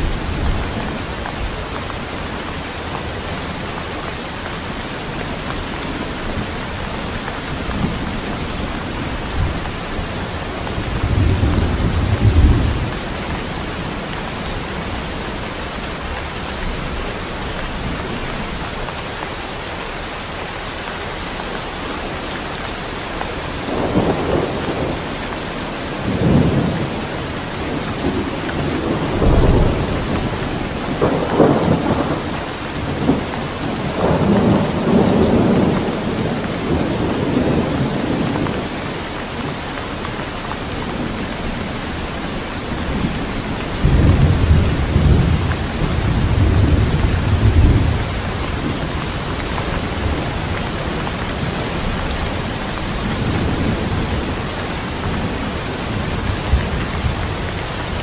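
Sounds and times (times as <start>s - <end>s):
thunder rumbling: 0.0s - 18.6s, 23.0s - 58.0s
steady rain: 0.0s - 58.0s.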